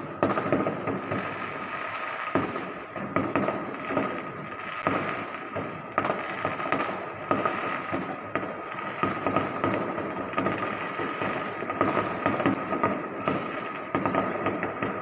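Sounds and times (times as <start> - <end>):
firework shells bursting: 0.0 - 15.0
fireworks crackling: 0.0 - 15.0.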